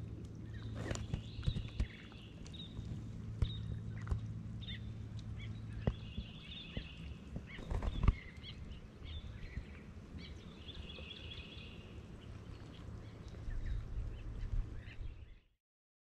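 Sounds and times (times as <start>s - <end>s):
birds calling: 0.0s - 15.5s
low steady rumble: 0.0s - 15.5s.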